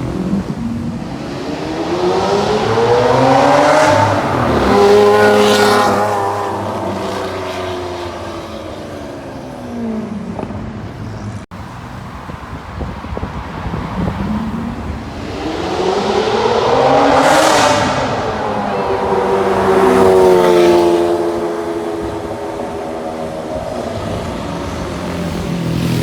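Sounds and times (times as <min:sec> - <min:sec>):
sports car accelerating: 0:00.0 - 0:10.9, 0:11.7 - 0:26.0.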